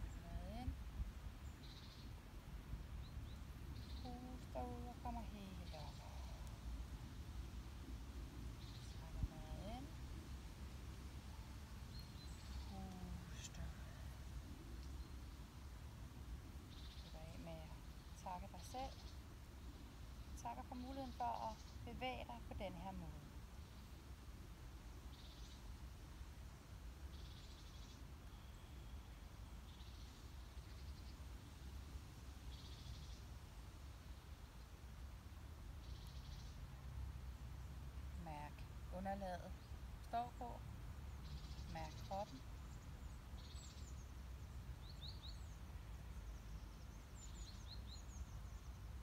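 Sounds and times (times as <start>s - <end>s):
faint low rumble: 0.0s - 49.0s
small birds chirping faintly: 0.0s - 49.0s.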